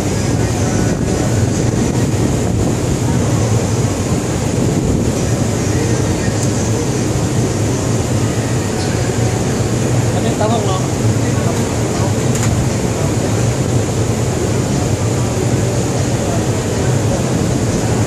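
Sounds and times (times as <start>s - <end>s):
ship machinery hum and rumble: 0.0s - 18.0s.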